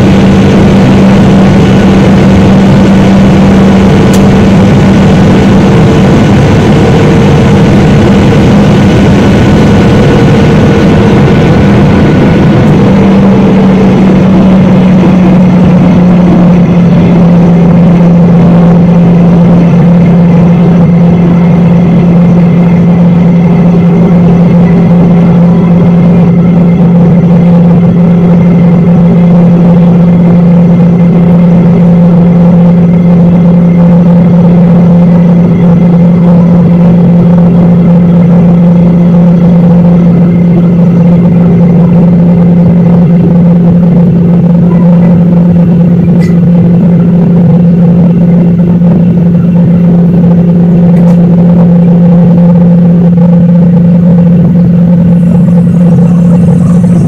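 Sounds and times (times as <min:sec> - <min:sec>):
jet engine drone: 0:00.0 - 0:57.0
rushing airflow: 0:00.0 - 0:57.0.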